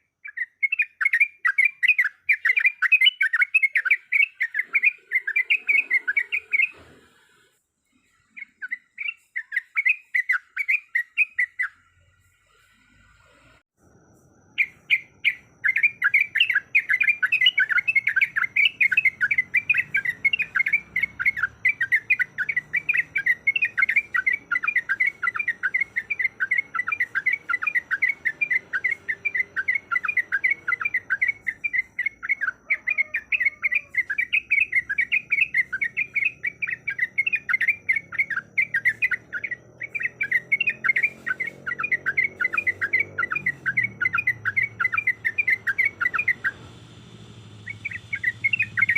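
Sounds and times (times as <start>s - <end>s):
bird singing chattering song: 0.0s - 6.8s, 7.9s - 12.7s, 14.4s - 48.9s.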